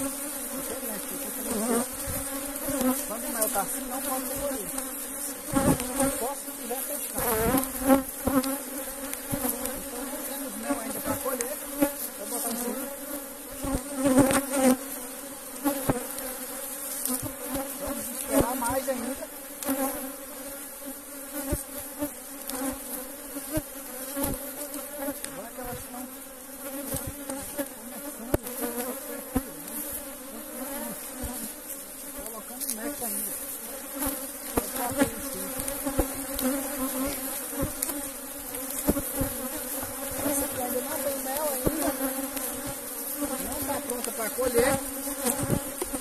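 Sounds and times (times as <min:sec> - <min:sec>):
honeybees buzzing: 0:00.0 - 0:46.0.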